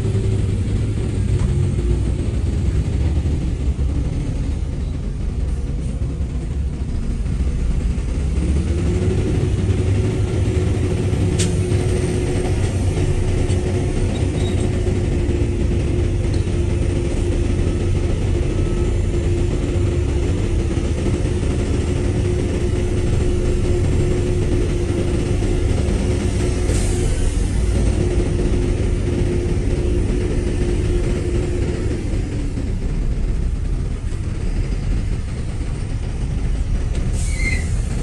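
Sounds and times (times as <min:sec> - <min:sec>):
steady whine: 0:00.0 - 0:37.2
diesel machinery rumbling: 0:00.0 - 0:38.0.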